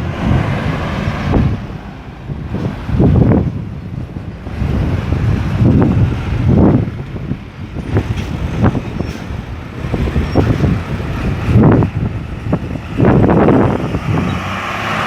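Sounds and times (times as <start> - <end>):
vehicles passing close by: 0.0 - 15.0.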